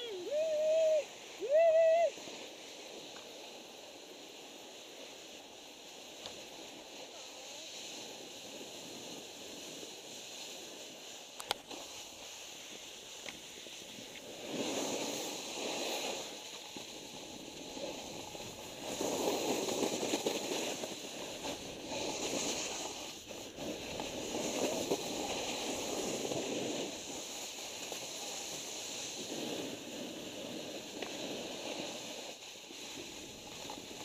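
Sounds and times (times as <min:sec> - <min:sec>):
snowboard scraping over snow: 0:00.0 - 0:34.0.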